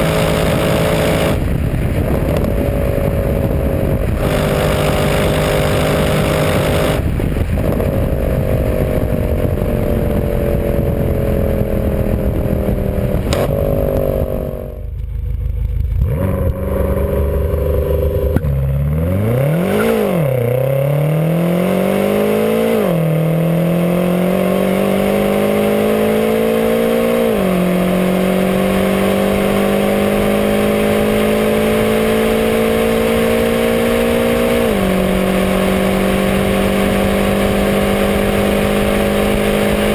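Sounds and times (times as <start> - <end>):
car accelerating through gears: 0.0 - 14.8, 16.0 - 39.9
car engine at high revs: 0.0 - 39.9.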